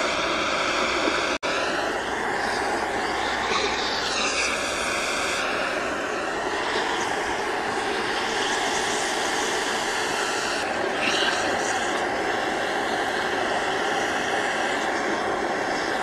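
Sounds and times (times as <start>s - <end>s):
blowtorch flame hissing: 0.0s - 16.0s.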